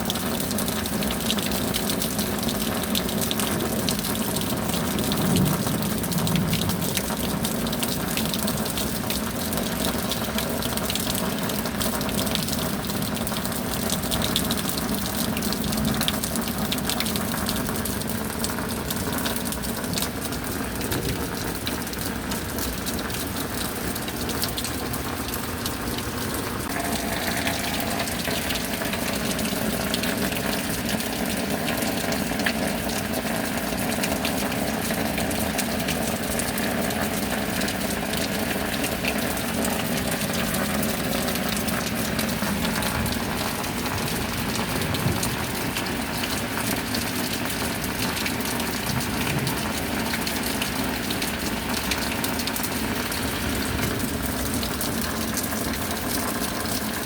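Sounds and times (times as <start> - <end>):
running water rushing: 0.0 - 57.0
steady rain: 0.0 - 57.0.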